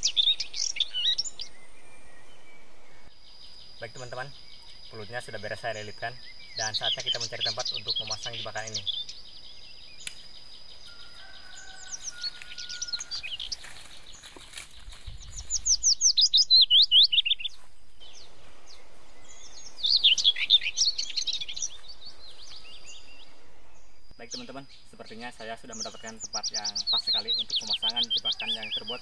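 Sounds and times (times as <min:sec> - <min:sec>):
bird chirping rapidly: 0:00.0 - 0:29.0.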